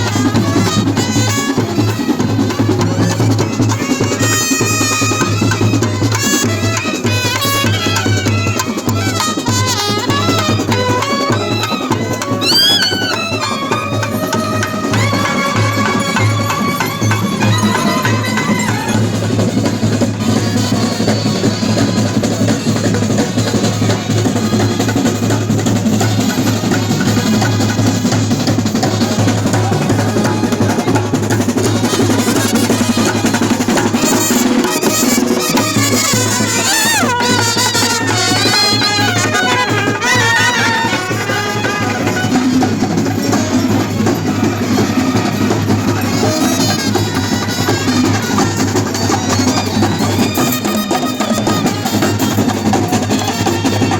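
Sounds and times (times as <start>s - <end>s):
loud drumming: 0.0s - 53.9s.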